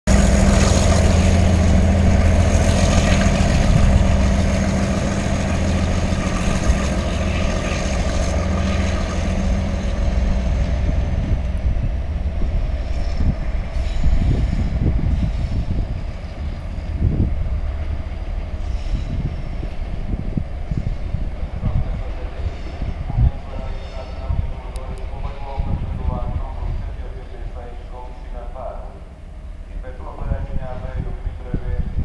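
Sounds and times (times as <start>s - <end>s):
diesel locomotive engine droning: 0.0s - 32.0s.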